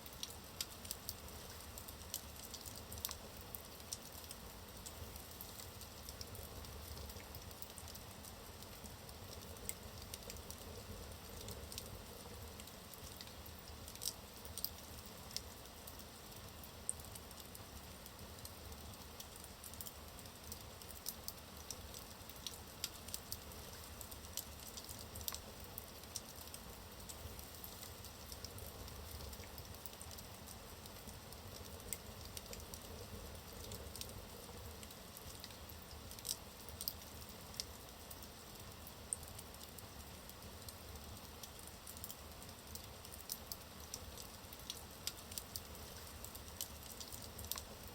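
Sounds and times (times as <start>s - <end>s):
wood fire crackling and hissing: 0.0s - 47.9s.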